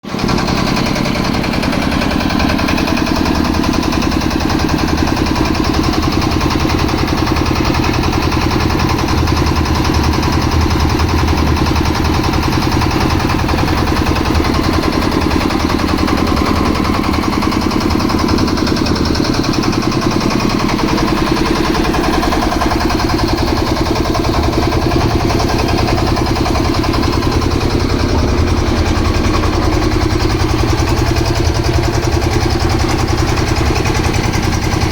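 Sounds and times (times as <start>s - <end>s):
concrete mixer engine running: 0.0s - 34.9s.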